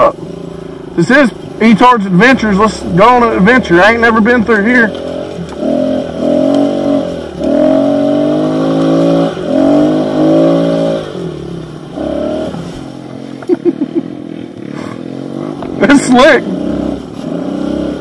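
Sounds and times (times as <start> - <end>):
motorbike engine revving: 0.0 - 18.0.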